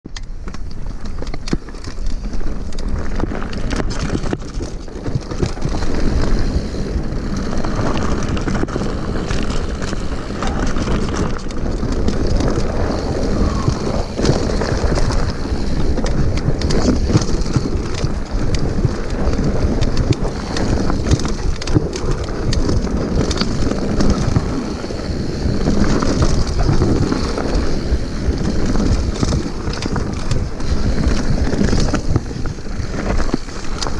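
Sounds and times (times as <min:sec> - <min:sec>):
bike clattering over bumps: 0:00.1 - 0:33.9
tyres crunching over stones: 0:00.2 - 0:33.9
wind buffeting microphone: 0:01.6 - 0:33.9.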